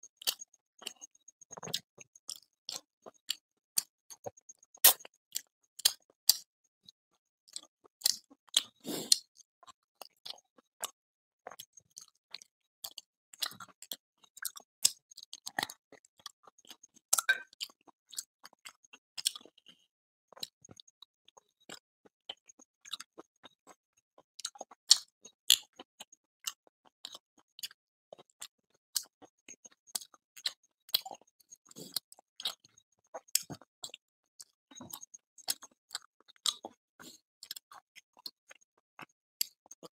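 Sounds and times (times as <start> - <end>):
man chewing and lip smacking: 0.2 - 39.9.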